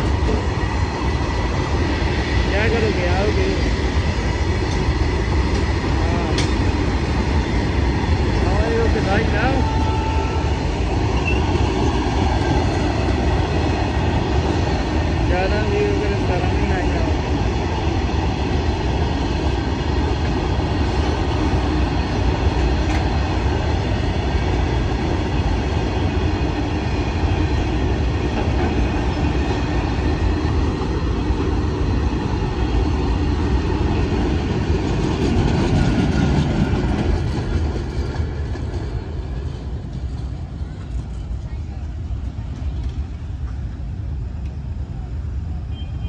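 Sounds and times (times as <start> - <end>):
train wagons rumbling over rails: 0.0 - 46.0.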